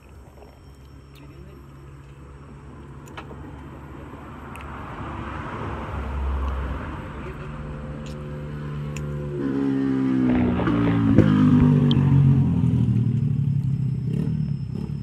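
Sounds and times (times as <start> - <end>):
vehicle engine passing: 1.2 - 15.0.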